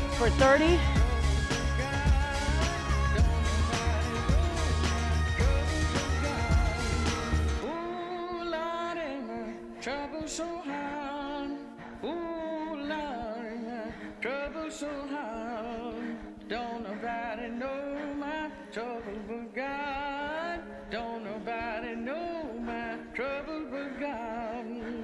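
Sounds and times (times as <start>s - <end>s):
pop song with singer: 0.0s - 25.0s.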